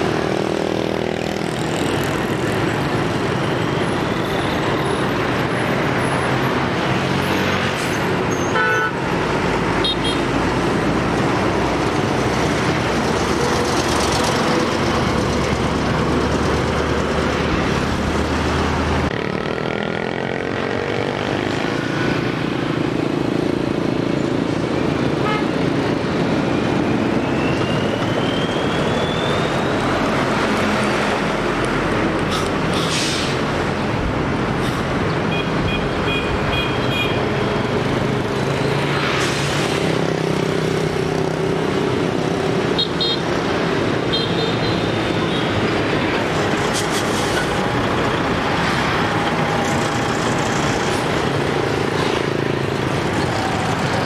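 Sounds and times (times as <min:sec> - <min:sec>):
motorbikes passing: 0:00.0 - 0:08.3, 0:09.0 - 0:32.8, 0:33.4 - 0:54.0
lorries passing: 0:00.0 - 0:54.0.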